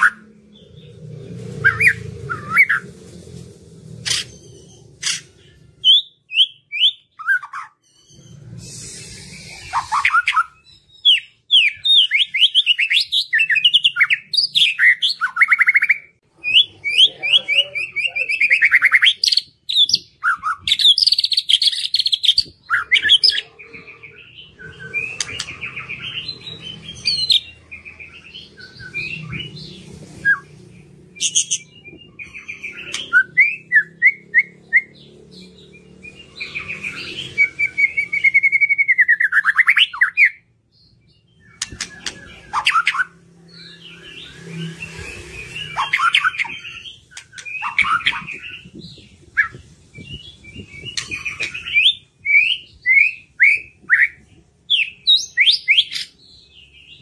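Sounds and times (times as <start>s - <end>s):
songbird singing: 3.9s - 57.0s.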